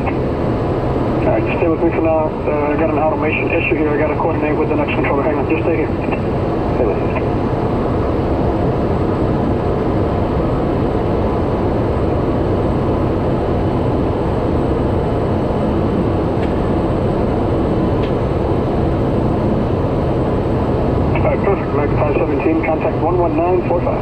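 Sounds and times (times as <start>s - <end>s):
turboprop engine cockpit drone: 0.0s - 24.0s.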